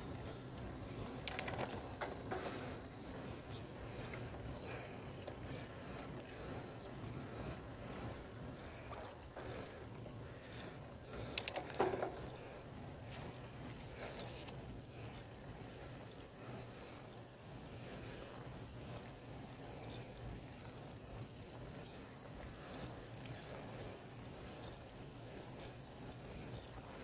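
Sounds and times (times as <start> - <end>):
insect chorus buzzing: 0.0 - 27.0
low rumble of bicycle ride: 0.0 - 27.0.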